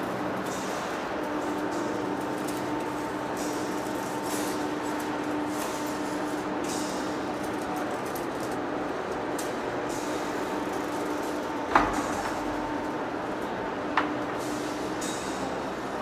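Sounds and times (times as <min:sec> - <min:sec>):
industrial machinery humming: 0:00.0 - 0:16.0.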